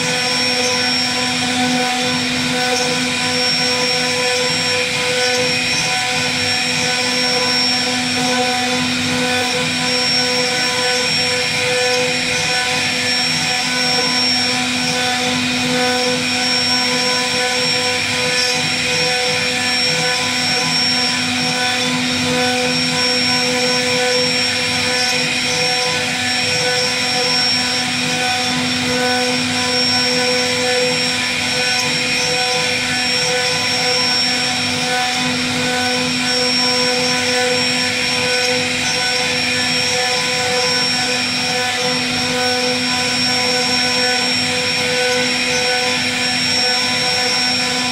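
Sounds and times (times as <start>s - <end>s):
router bit cutting wood: 0.0s - 47.9s
router spindle whine: 0.0s - 47.9s.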